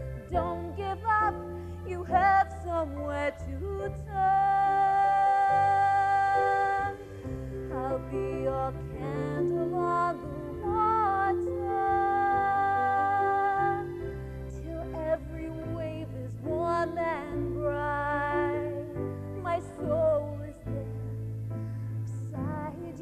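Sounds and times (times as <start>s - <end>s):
woman singing: 0.0s - 21.2s, 22.1s - 23.0s.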